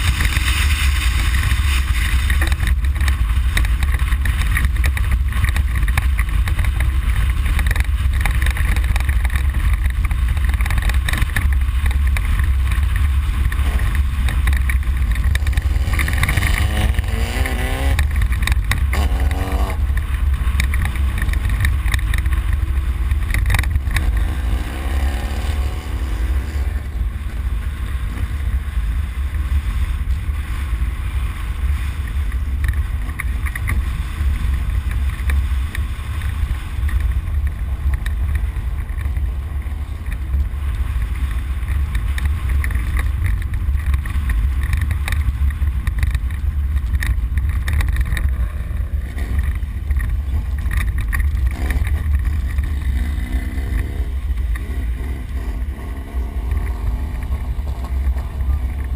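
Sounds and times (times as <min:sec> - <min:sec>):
truck engine rumbling: 0:00.0 - 0:58.9.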